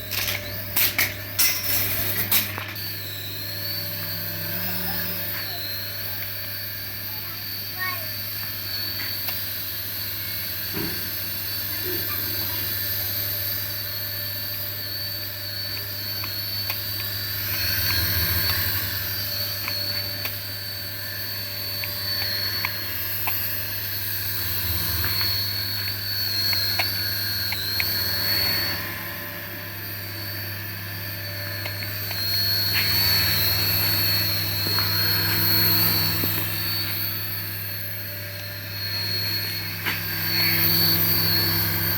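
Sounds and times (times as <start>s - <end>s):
toy electric motor whining: 0.0s - 41.9s.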